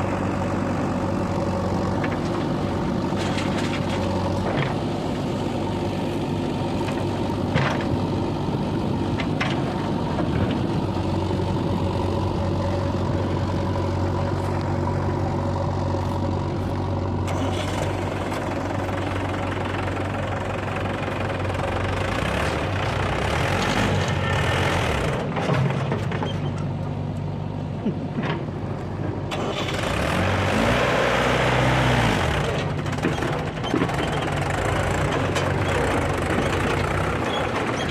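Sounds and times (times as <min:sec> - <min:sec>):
heavy diesel engine running: 0:00.0 - 0:37.9.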